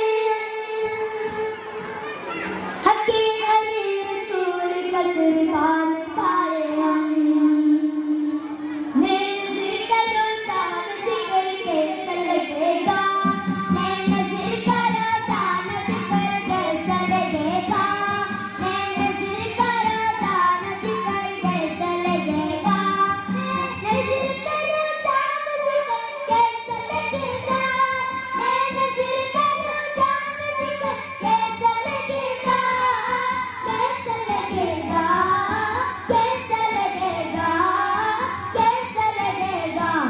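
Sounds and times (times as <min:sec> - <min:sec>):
children singing into microphones: 0:00.0 - 0:40.0
musical accompaniment: 0:00.0 - 0:40.0.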